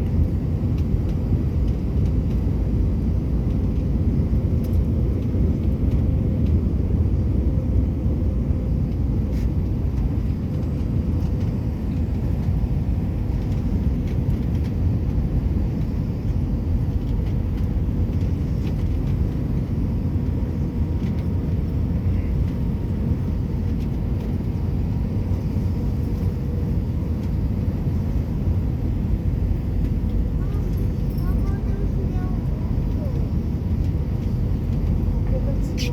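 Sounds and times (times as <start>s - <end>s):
jet engine and airflow rumble: 0.0s - 35.9s.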